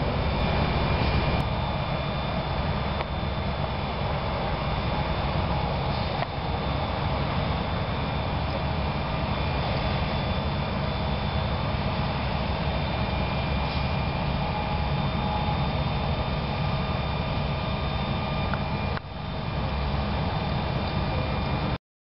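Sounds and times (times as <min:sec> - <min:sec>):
faint steady whines: 0:00.0 - 0:21.8
motorway traffic rumble: 0:00.0 - 0:21.8.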